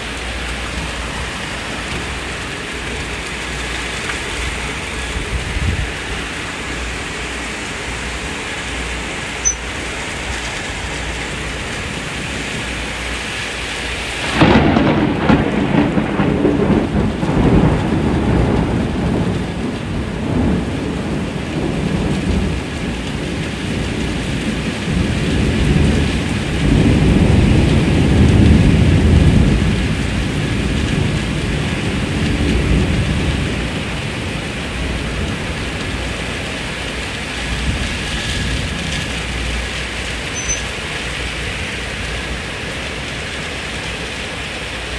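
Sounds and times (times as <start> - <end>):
thunder clap and rumble: 0.0 - 43.2
rain hissing: 0.0 - 44.9.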